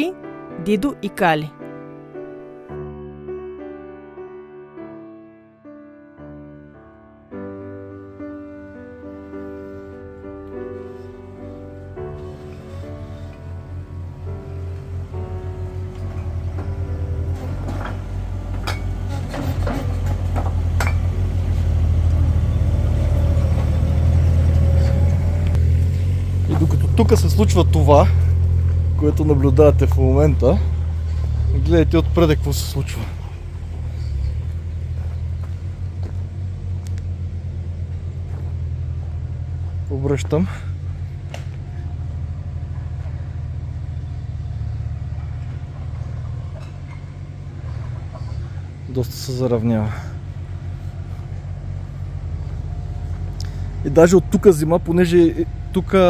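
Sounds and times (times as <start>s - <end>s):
diesel engine running: 9.0s - 56.0s.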